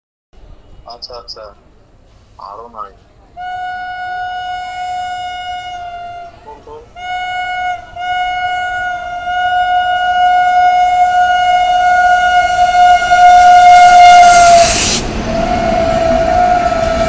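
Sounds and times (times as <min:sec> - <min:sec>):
rumble of passing train: 0:00.4 - 0:17.0
locomotive horn blast: 0:03.2 - 0:17.0.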